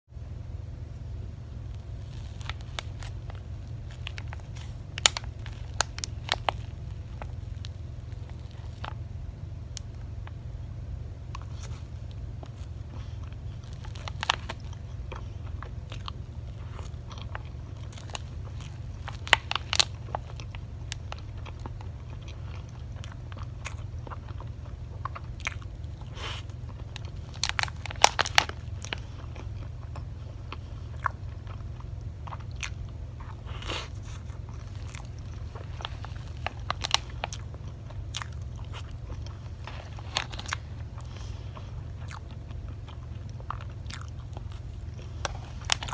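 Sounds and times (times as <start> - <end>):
steady low hum: 0.1 - 45.9
moist chewing: 1.6 - 9.0, 11.3 - 45.9.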